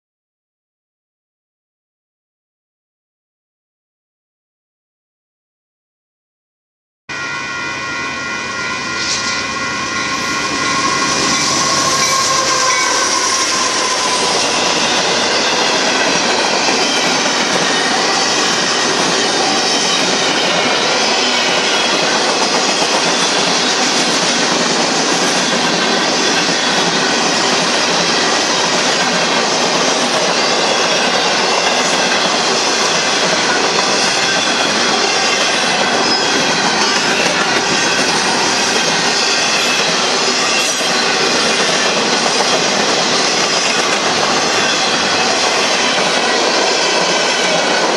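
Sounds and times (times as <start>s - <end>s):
freight train rolling past: 7.1s - 47.9s
high steady tones: 7.1s - 47.9s.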